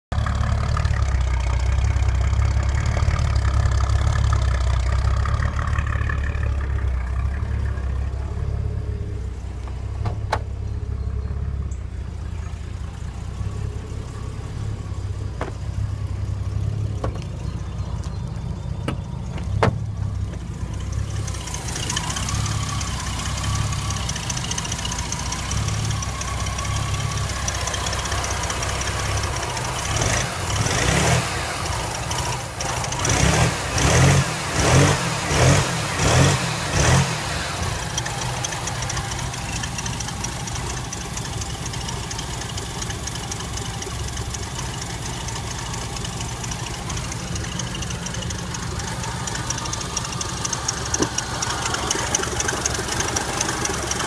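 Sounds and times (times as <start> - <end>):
car engine idling: 0.1 - 54.0
engine bay whir and hiss: 6.6 - 54.0.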